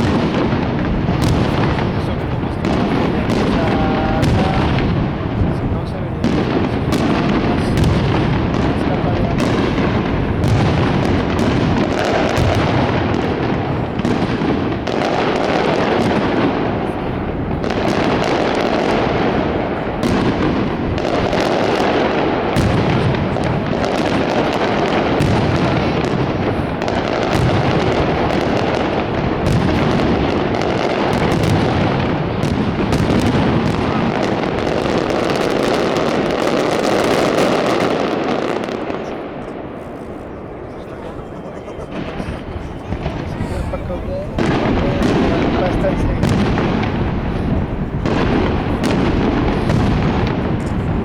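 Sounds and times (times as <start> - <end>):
fireworks bursts and crackling: 0.0 - 51.0.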